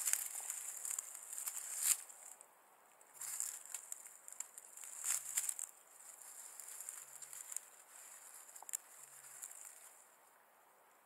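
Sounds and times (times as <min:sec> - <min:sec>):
dry reeds rustling and crackling: 0:00.0 - 0:02.4, 0:03.0 - 0:10.4.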